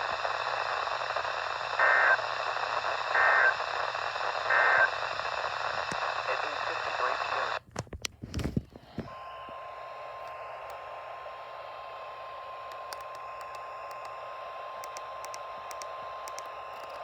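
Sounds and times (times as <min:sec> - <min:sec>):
radio static hiss: 0:00.0 - 0:07.6, 0:09.0 - 0:17.0.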